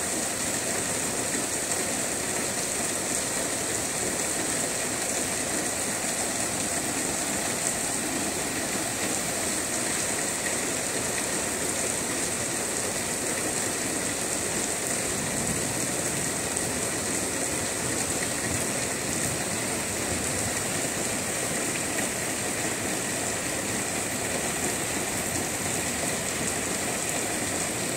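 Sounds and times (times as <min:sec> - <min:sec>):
rain falling on trees: 0:00.0 - 0:27.9.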